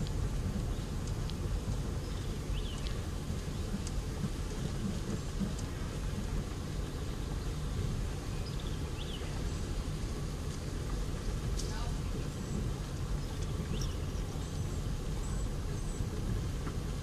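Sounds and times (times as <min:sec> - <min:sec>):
vehicle rumbling on dirt road: 0:00.0 - 0:17.0.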